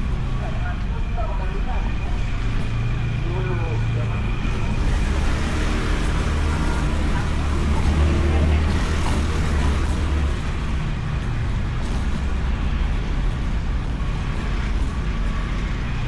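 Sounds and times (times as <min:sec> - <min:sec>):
scooter engine drone: 0:00.0 - 0:16.0
wind and road noise: 0:00.0 - 0:16.0.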